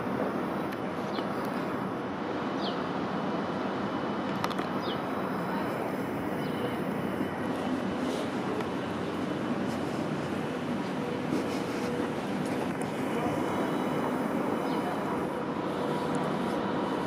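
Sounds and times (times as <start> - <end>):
railway station background noise: 0.0 - 17.0.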